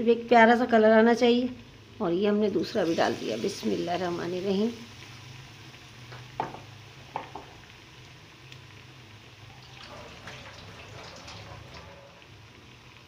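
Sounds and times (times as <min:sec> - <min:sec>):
food sizzling in hot oil: 0:00.1 - 0:13.0.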